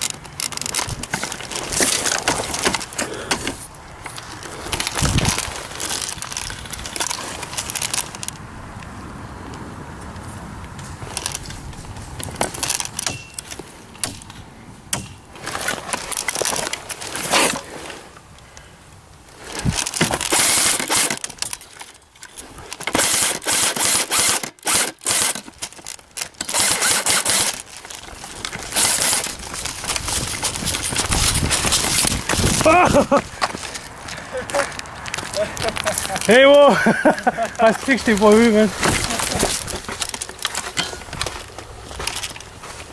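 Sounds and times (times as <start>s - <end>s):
footsteps crunching on rough ground: 0.0s - 8.9s, 10.0s - 18.3s, 23.8s - 42.9s
sharp clicks and rattles: 0.0s - 8.9s, 9.5s - 17.7s, 19.4s - 42.9s
gear rustling and scraping: 0.0s - 18.7s, 19.3s - 42.9s.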